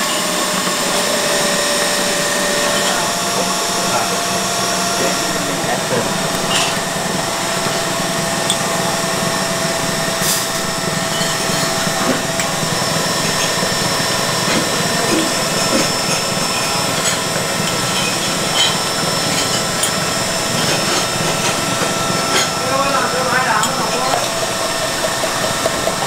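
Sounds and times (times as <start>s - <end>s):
high whine: 0.0s - 26.0s.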